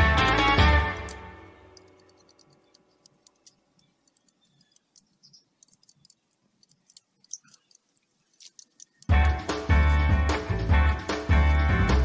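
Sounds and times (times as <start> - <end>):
bamboo strip clicking and scraping: 0.9 - 12.0.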